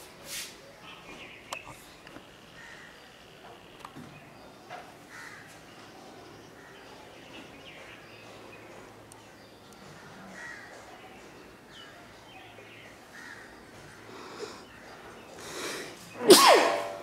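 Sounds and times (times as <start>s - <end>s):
harsh bird calls: 0.9s - 17.0s.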